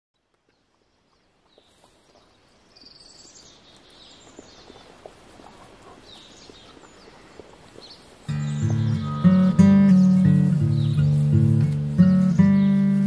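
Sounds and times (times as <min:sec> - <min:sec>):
birds chirping: 0:00.2 - 0:13.0
soft outdoor ambience: 0:00.2 - 0:13.0.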